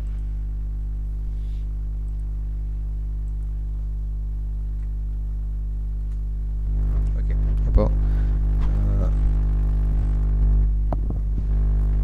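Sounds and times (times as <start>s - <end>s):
buzzy electrical mains hum: 0.0s - 12.0s.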